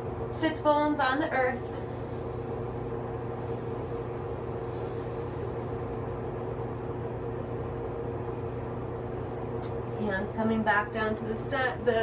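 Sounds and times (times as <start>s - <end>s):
mechanical hum with mid-pitched tone: 0.0s - 12.0s.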